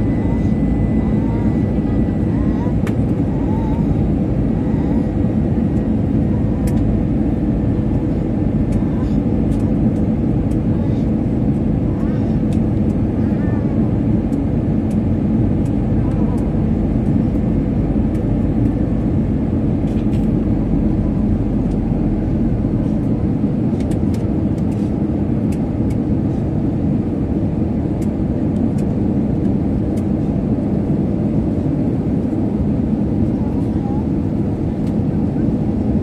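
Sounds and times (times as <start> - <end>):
jet engine roar in cabin: 0.0 - 36.0
steady low hum: 0.0 - 36.0.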